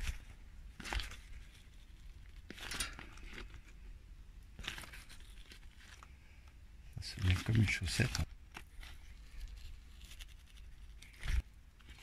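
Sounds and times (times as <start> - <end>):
newspaper and plastic crinkling: 0.0 - 3.9, 4.5 - 12.0.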